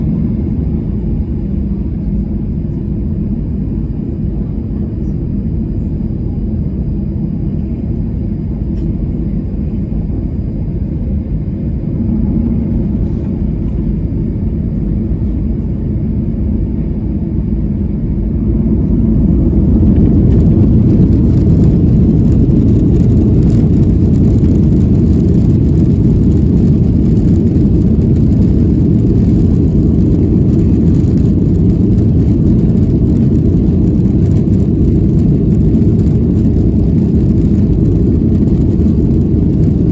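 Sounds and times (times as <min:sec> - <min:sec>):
jet engines rumbling on takeoff: 0:00.0 - 0:39.9.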